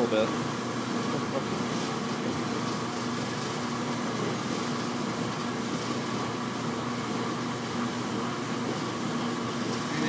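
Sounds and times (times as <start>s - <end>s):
dishwasher motor hum: 0.0s - 10.0s.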